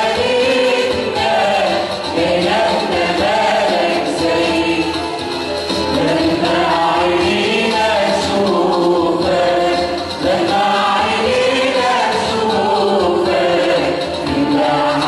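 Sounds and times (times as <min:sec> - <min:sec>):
choir singing a hymn: 0:00.0 - 0:15.0
musical accompaniment: 0:00.0 - 0:15.0.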